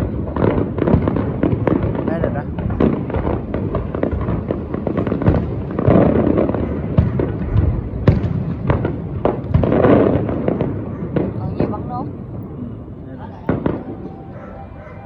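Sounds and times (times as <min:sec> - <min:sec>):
fireworks bangs and booms: 0:00.0 - 0:15.0
fireworks crackling: 0:00.0 - 0:15.0.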